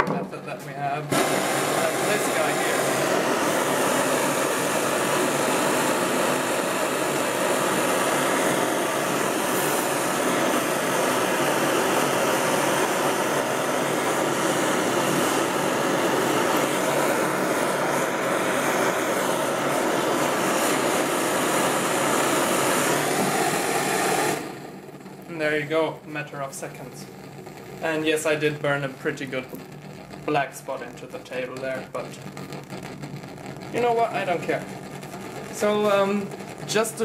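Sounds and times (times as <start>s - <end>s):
blowtorch flame rushing: 0.0s - 37.0s.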